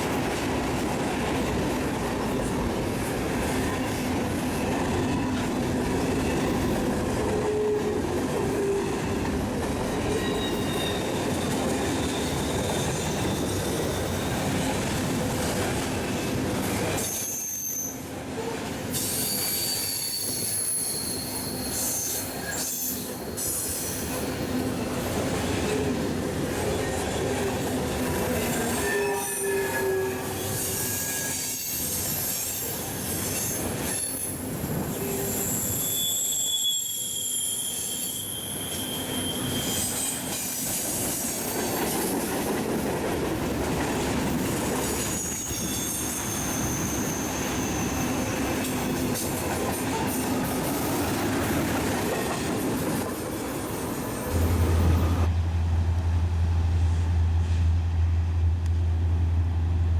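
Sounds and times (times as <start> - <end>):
train rumbling: 0.0 - 35.9, 37.6 - 59.9
train wheels squealing on rails: 3.5 - 15.6, 16.6 - 42.9, 43.6 - 55.3.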